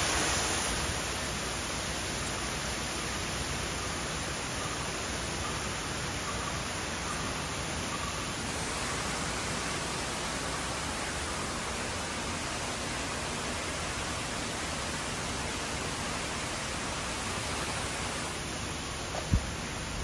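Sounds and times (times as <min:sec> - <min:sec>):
rush of falling water: 0:00.0 - 0:20.0.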